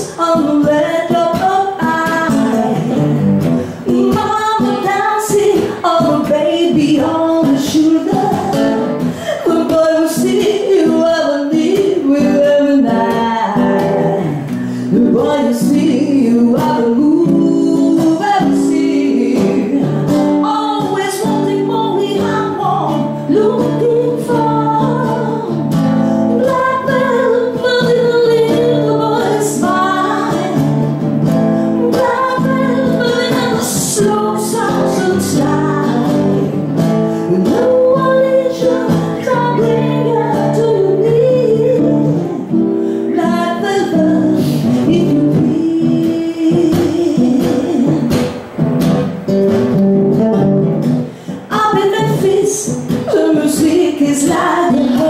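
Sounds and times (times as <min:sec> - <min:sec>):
woman singing into microphone: 0:00.0 - 0:48.7, 0:49.5 - 0:55.0
acoustic guitar: 0:00.0 - 0:55.0.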